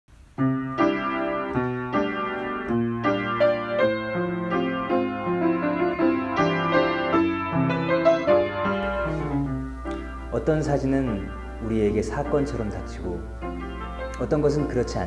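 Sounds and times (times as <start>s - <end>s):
piano music: 0.2s - 15.0s.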